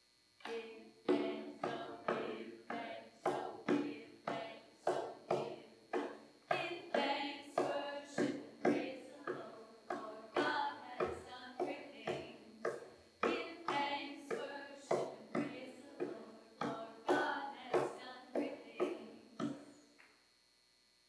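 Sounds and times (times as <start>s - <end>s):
repeated struck chords: 0.4s - 19.6s.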